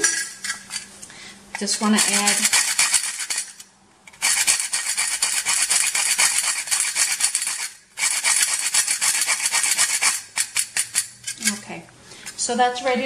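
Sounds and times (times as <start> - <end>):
nutmeg grating: 1.6 - 12.4.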